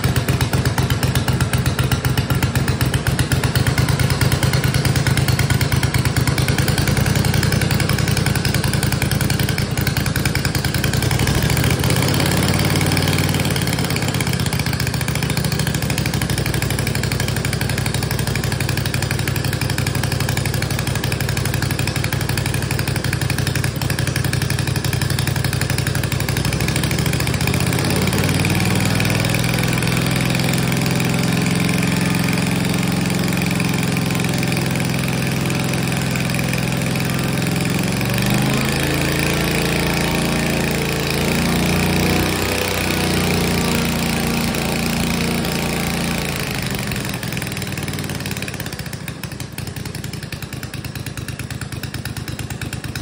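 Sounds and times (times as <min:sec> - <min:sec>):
engine driving propeller: 0:00.0 - 0:53.0.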